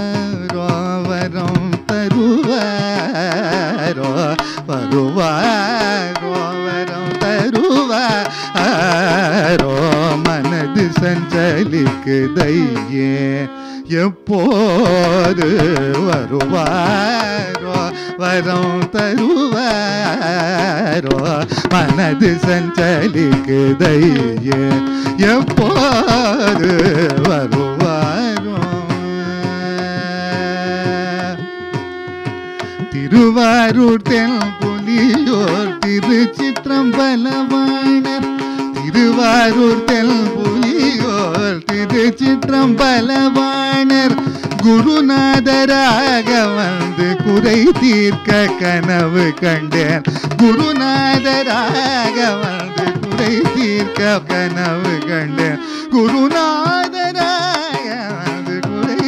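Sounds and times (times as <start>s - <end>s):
hand drum strokes: 0.0s - 13.2s, 14.4s - 59.0s
man singing ornamented melody: 0.0s - 31.6s, 32.6s - 59.0s
violin: 0.0s - 59.0s.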